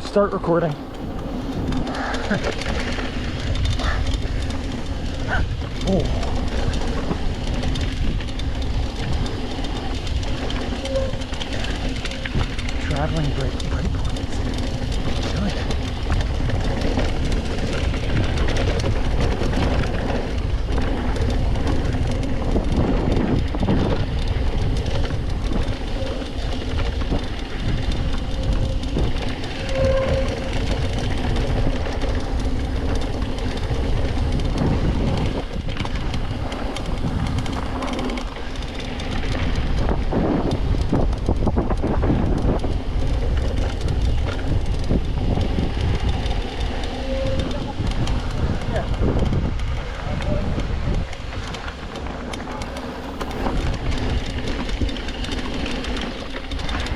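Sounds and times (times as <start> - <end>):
bike rattling and knocking: 0.0 - 56.9
bike tyres rumbling on dirt: 0.0 - 56.9.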